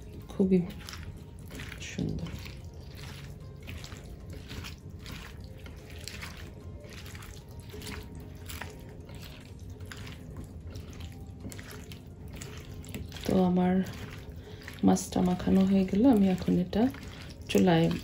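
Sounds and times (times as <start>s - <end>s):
hand squelching wet food: 0.0s - 18.0s.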